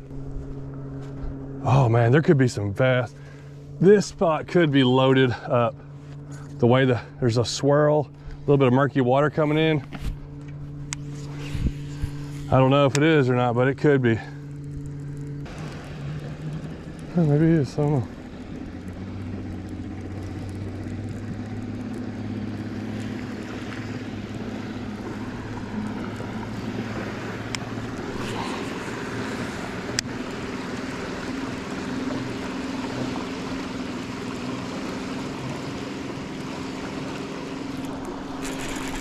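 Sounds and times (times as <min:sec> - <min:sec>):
outboard motor droning: 0:00.0 - 0:39.0.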